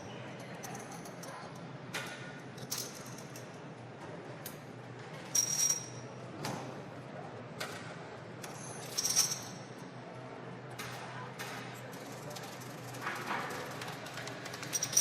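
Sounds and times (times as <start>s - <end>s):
background hubbub: 0.0s - 15.0s.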